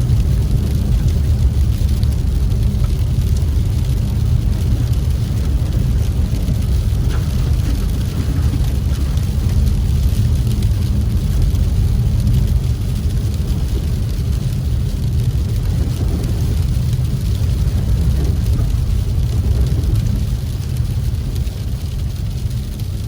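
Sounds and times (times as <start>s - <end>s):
car driving on snowy road: 0.0s - 23.0s.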